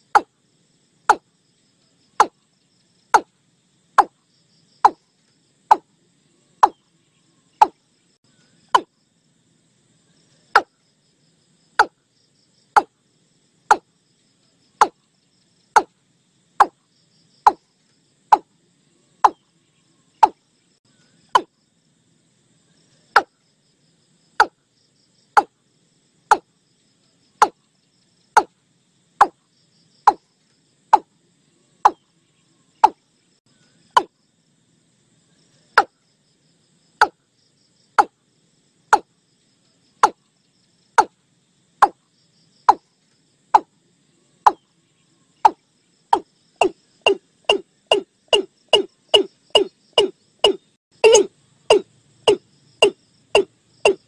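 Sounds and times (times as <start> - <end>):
faint insect chirring: 0.0 - 54.0.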